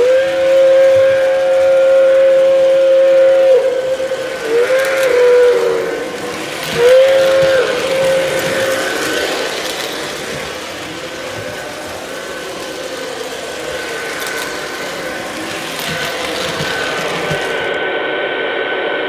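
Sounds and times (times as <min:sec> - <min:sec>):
model train motor and wheels: 0:00.0 - 0:17.9
train whistle: 0:00.0 - 0:19.0.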